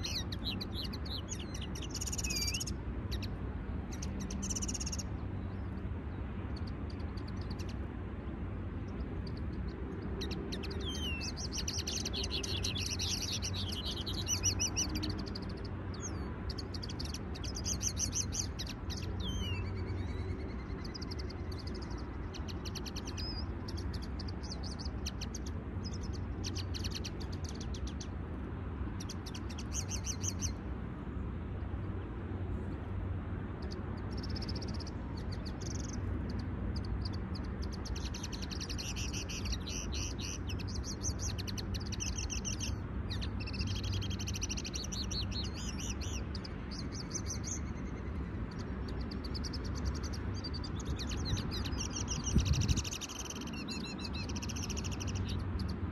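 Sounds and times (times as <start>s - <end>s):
finches twittering: 0.0s - 5.8s, 8.9s - 28.2s, 28.9s - 30.6s, 33.6s - 55.8s
steady low rumble: 0.0s - 55.9s.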